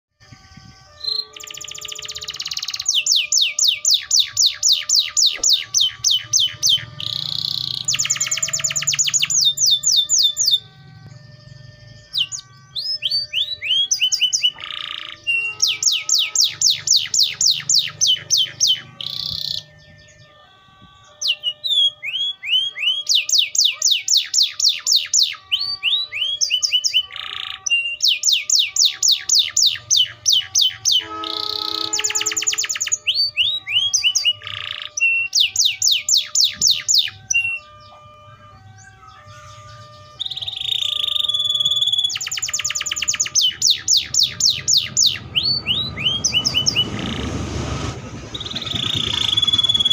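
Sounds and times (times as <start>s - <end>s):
canary singing: 0.2s - 49.9s.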